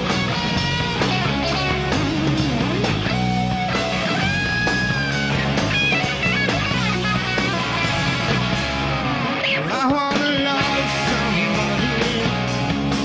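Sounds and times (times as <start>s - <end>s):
rock music with electric guitar: 0.0s - 13.0s
sliding guitar notes: 0.0s - 13.0s.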